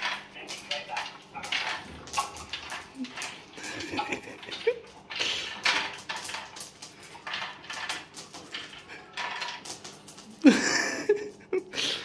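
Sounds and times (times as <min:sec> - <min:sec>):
kibble clattering in bowl: 0:00.0 - 0:11.7.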